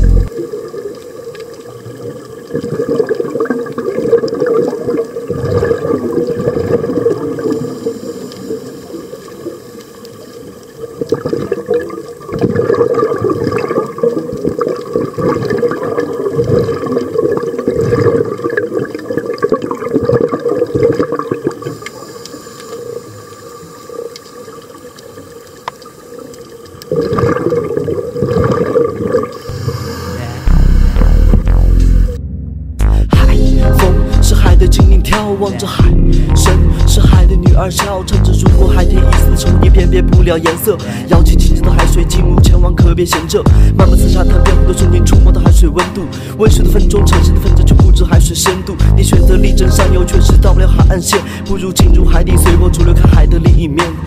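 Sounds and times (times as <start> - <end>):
underwater bubbling of exhaled air: 0.0 - 32.2, 33.0 - 54.0.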